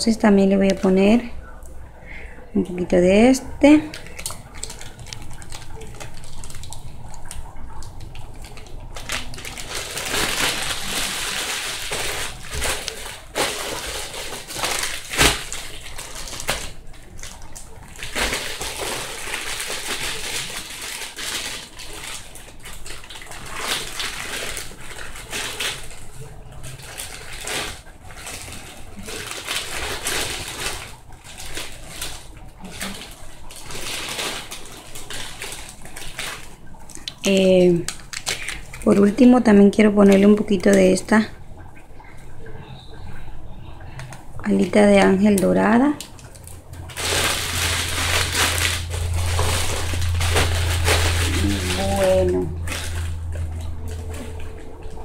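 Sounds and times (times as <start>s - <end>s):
glitter rustling: 0.0s - 55.0s.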